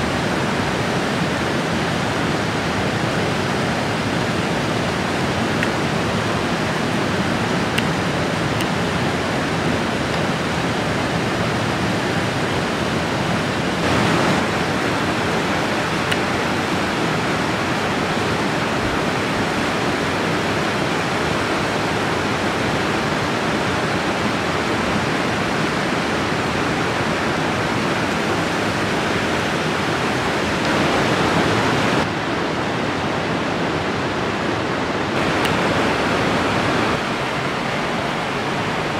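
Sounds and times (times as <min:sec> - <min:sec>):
river rushing over boulders: 0:00.0 - 0:38.9.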